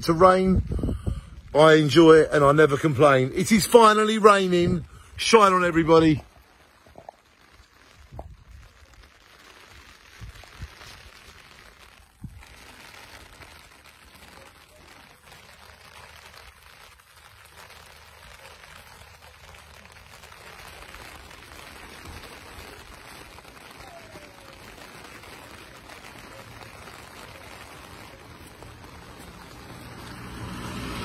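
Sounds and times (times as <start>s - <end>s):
rain on umbrella: 0.0s - 31.0s.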